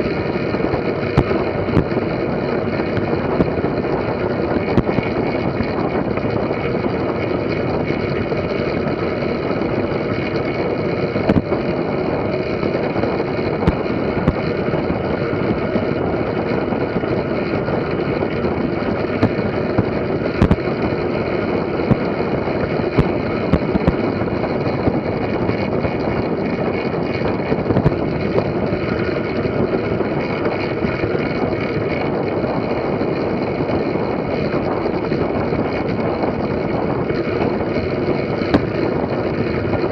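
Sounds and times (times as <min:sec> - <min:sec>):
bicycle tyres rolling: 0:00.0 - 0:39.9.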